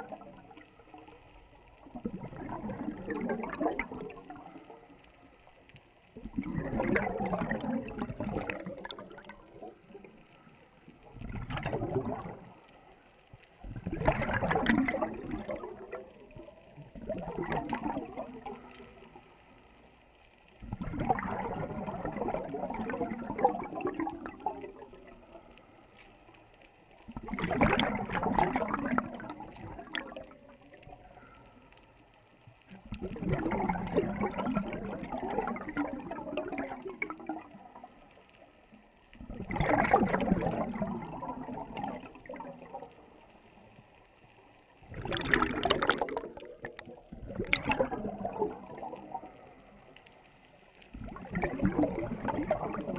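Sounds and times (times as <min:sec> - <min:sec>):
scuba exhaust bubbles gurgling: 0:00.0 - 0:52.9.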